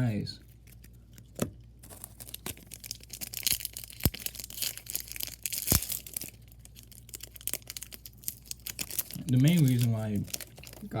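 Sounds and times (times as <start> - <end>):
foil wrapper crinkling and tearing: 0.5 - 11.0.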